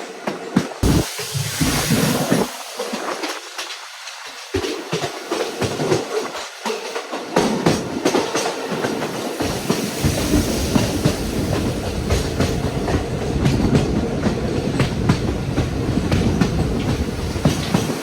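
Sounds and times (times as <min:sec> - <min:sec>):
train rumble: 0:00.0 - 0:18.0
train wheels clacking over rail joints: 0:02.4 - 0:18.0.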